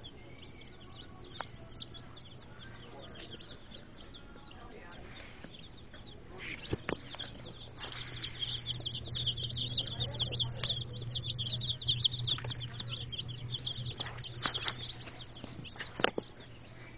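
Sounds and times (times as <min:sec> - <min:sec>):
baby chicks peeping: 0:00.0 - 0:16.9
low steady hum: 0:00.0 - 0:16.9.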